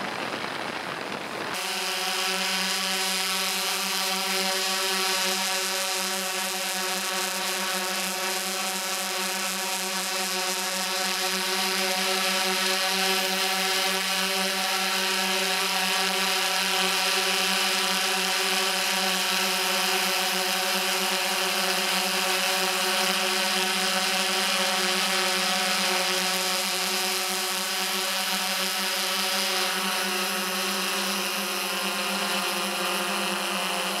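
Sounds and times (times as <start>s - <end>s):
drone motors and propellers whining: 0.0s - 34.0s.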